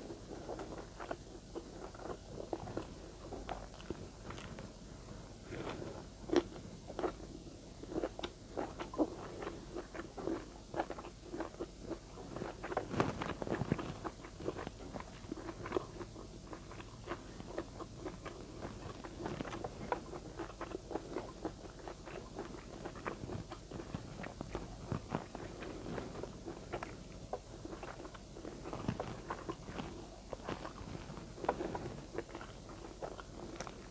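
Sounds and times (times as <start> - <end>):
person chewing food: 0.0 - 33.9.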